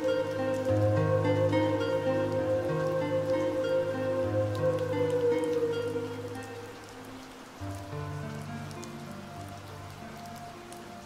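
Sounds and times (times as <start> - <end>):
slow music with low held notes: 0.0 - 11.0
steady rain falling: 0.0 - 11.0.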